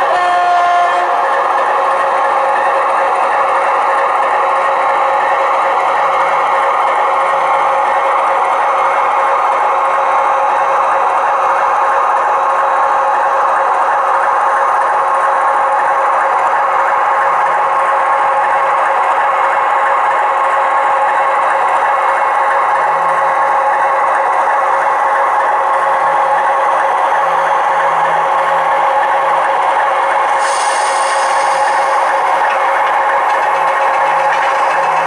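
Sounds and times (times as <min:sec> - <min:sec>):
diesel engine drone from small speaker: 0:00.0 - 0:06.1, 0:10.1 - 0:35.0.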